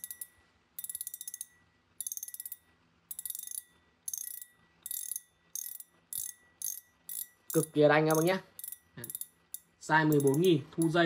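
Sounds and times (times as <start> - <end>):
fishing reel drag clicking: 0.0 - 10.5.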